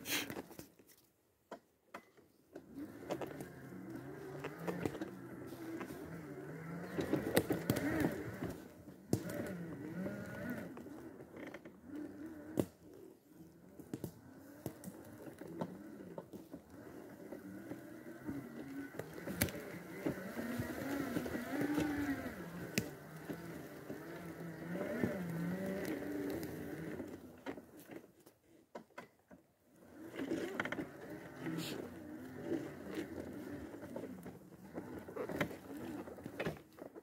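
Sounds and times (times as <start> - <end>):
electric wheelchair motors whining: 2.6 - 28.1, 29.7 - 37.0.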